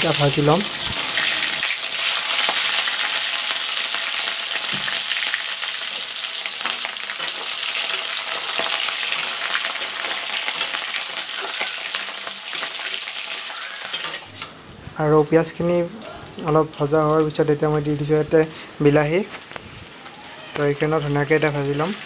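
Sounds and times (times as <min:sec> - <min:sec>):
vegetables sizzling in oil: 0:00.0 - 0:14.5, 0:16.5 - 0:22.0.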